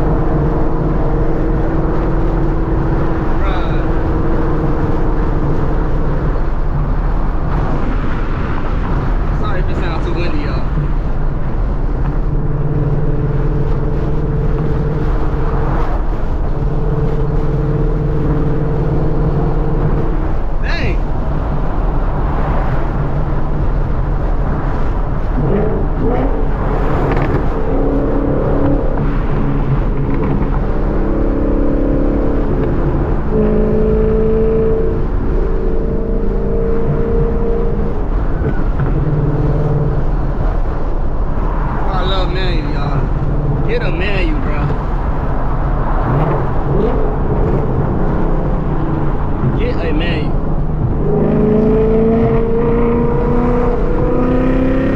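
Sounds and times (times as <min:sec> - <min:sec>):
car exhaust droning: 0:00.0 - 0:54.9
road noise: 0:00.0 - 0:54.9.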